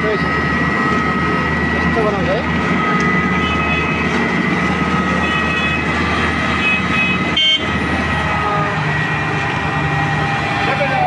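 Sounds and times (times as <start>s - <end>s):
diesel machinery engine drone: 0.0s - 11.0s
steady machine whine: 0.0s - 11.0s.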